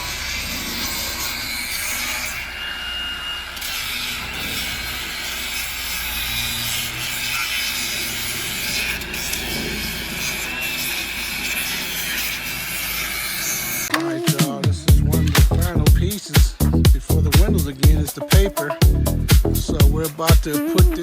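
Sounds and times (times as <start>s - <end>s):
grinder grinding wood: 0.0s - 21.0s.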